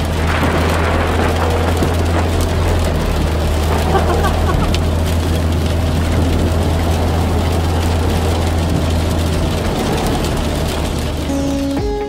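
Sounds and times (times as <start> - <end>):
deep rumble: 0.0 - 11.8
rain: 0.0 - 12.0.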